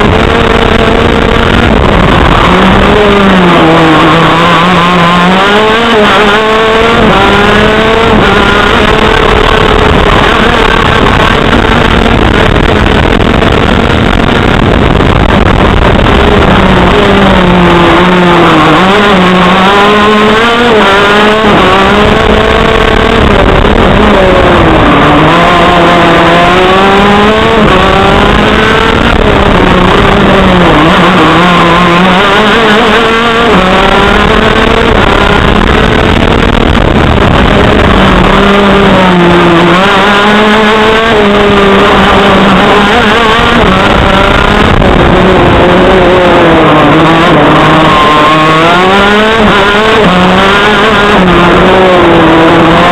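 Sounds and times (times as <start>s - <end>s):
kart engine revving: 0.0s - 52.9s.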